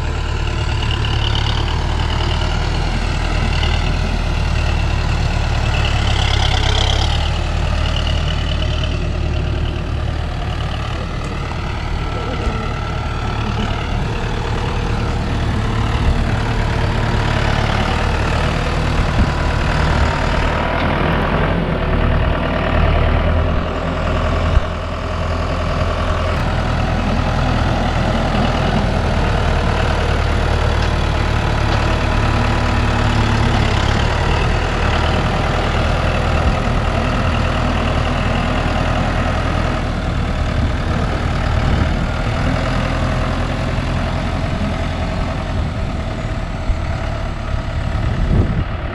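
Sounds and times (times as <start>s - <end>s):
engine running at low revs: 0.0s - 48.9s.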